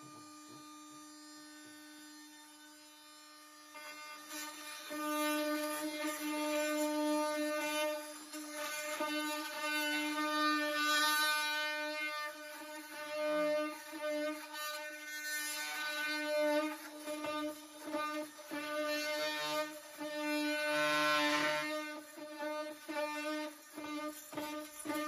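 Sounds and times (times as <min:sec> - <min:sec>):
oscillating multi-tool cutting wood: 0:00.0 - 0:25.0.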